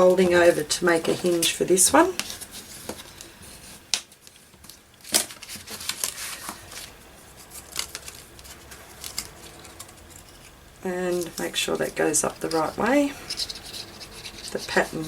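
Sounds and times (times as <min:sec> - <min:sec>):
paper being folded and creased: 0:00.0 - 0:15.0.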